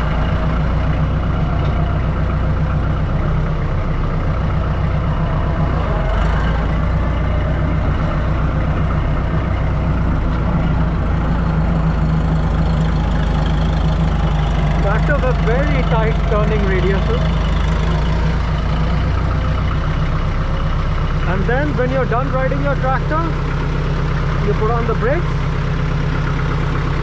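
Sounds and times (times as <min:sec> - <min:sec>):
tractor diesel engine humming: 0:00.0 - 0:27.0.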